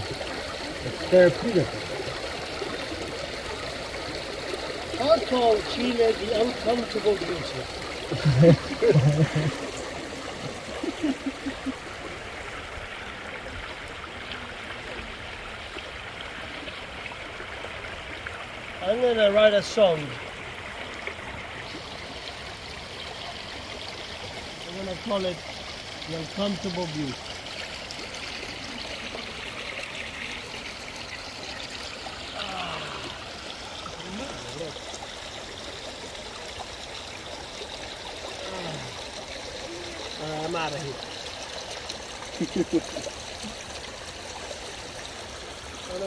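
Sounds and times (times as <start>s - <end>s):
rushing river water: 0.0s - 46.0s.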